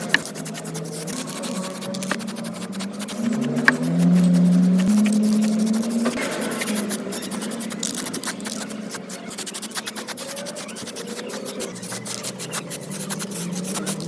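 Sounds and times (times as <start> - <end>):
rasping scraping: 0.0 - 14.0.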